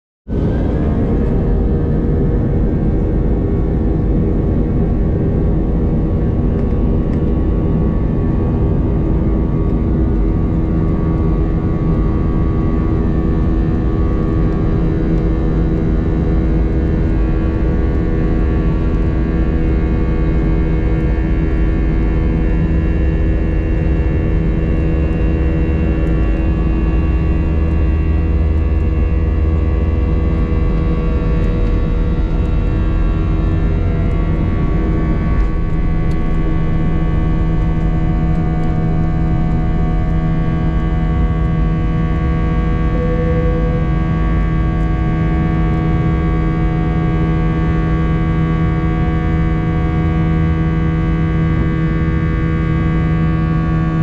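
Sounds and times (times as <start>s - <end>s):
jet engines rumbling in cabin: 0.3s - 54.0s.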